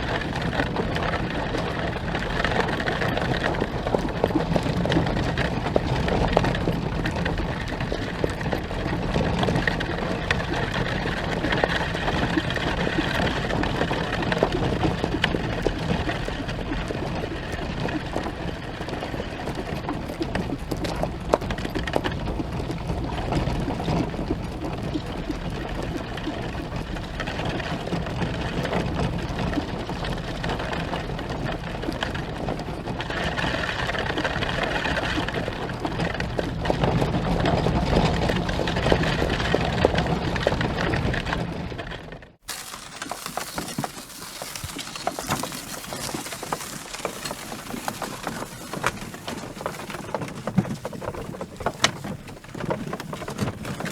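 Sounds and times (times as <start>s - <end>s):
horse hooves clattering: 0.0s - 53.9s.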